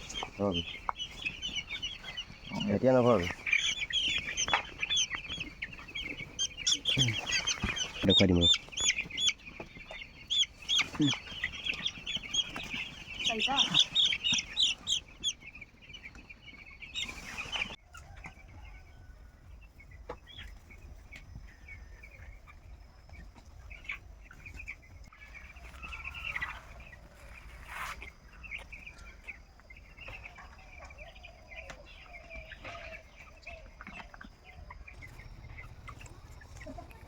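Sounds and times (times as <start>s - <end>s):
chickens cheeping and clucking: 0.0s - 37.0s.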